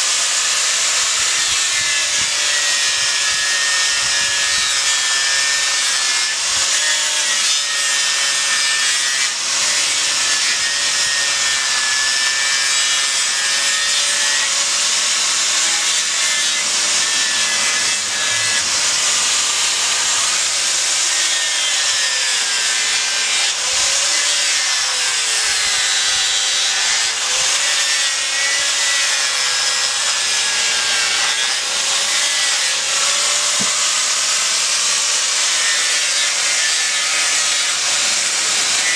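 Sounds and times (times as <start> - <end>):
angle grinder grinding wood: 0.0 - 38.9.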